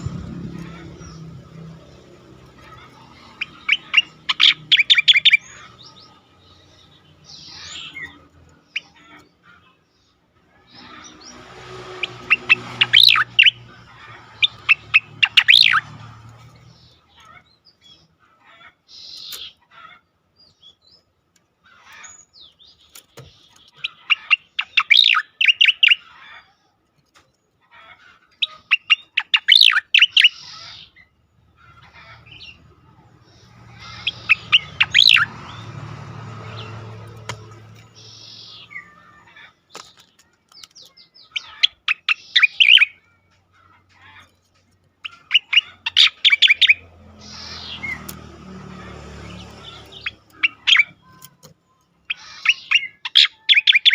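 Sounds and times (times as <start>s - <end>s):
bird chirping rapidly: 0.0s - 18.2s, 18.8s - 19.7s, 20.3s - 26.4s, 28.1s - 53.9s
soft bird calls: 0.0s - 53.9s.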